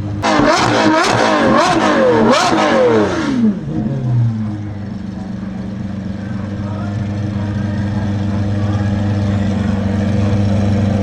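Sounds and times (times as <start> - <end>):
car engine idling: 0.0 - 11.0
car engine revving: 0.0 - 11.0.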